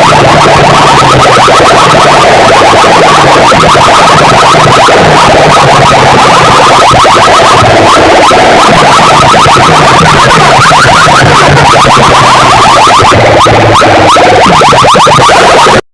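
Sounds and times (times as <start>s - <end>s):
electronic chirps over speakers: 0.0s - 15.8s.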